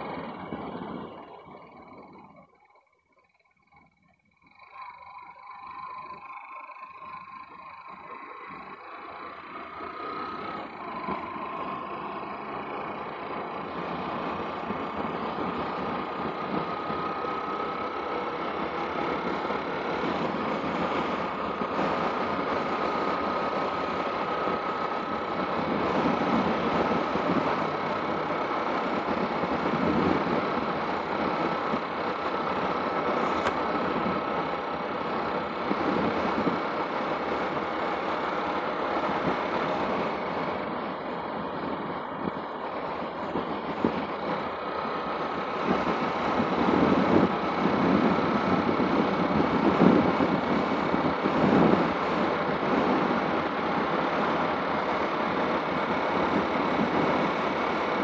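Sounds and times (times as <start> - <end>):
motorcycle engine running: 0.0 - 2.8, 3.9 - 58.0
road noise: 5.7 - 58.0.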